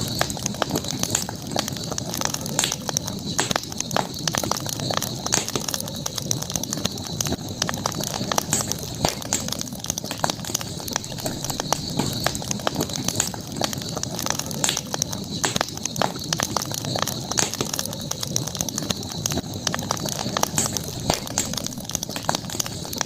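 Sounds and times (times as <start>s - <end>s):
campfire crackling and popping: 0.0s - 23.0s
high-pitched hiss: 0.0s - 23.0s.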